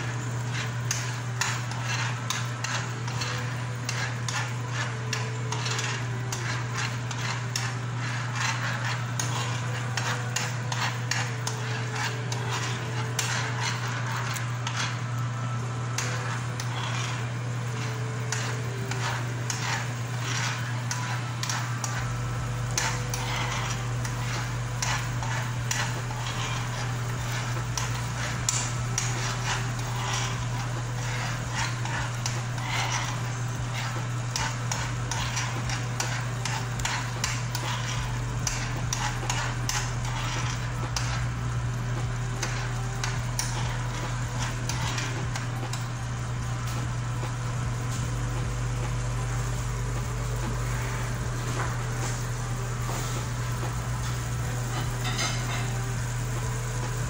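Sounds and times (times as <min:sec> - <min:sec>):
metal spoon scraping a pan: 0:00.0 - 0:46.8, 0:50.6 - 0:56.3
steady low hum: 0:00.0 - 0:57.0.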